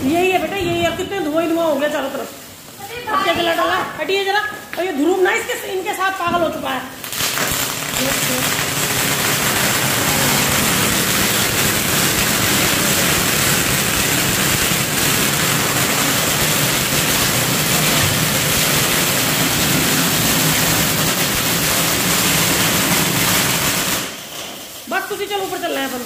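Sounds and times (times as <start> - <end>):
fine dense crackle: 0.0 - 26.0
firework fountain hissing: 0.0 - 26.0.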